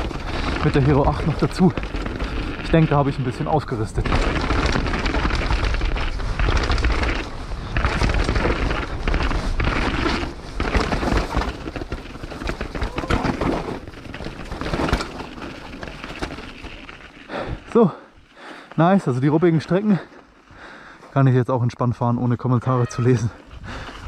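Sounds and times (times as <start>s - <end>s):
bike tyres rolling over rocks: 0.0s - 21.0s, 23.0s - 24.0s.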